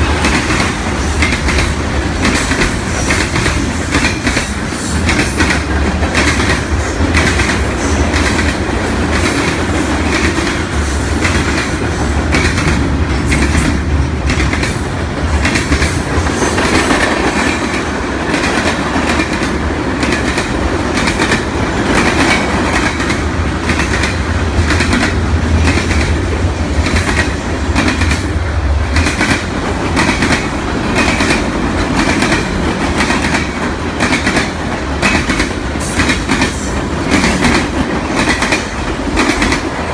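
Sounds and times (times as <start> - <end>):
train low rumble: 0.0 - 39.9
train wheels clicking over rail joints: 0.0 - 39.9.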